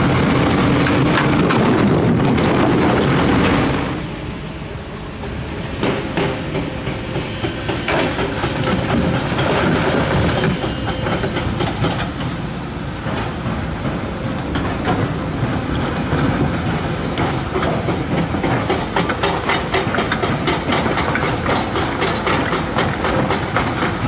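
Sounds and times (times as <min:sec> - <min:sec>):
excavator diesel engine rumbling: 0:00.0 - 0:24.0.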